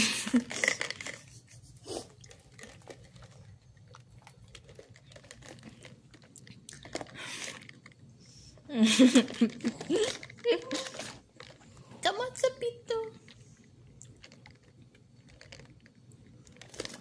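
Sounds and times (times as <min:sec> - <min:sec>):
crunchy rustling: 0:00.4 - 0:08.1, 0:09.2 - 0:12.0, 0:13.2 - 0:17.0.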